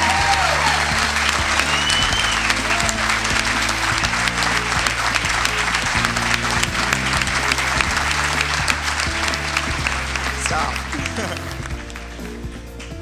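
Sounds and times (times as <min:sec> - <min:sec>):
audience applauding: 0:00.0 - 0:13.0
music of sustained chords: 0:00.0 - 0:13.0.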